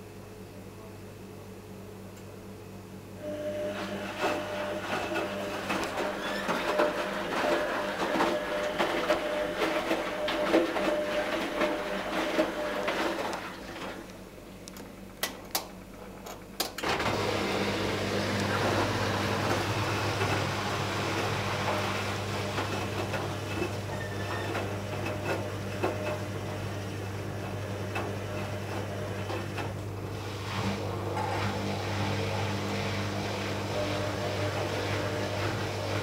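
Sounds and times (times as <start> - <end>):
washing machine humming: 0.0 - 36.0.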